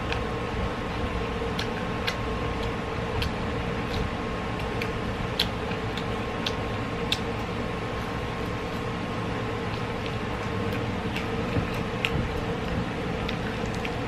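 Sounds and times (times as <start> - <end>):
steady background hum: 0.0 - 14.0
wet mouth clicks and smacks: 1.0 - 8.7, 9.6 - 14.0.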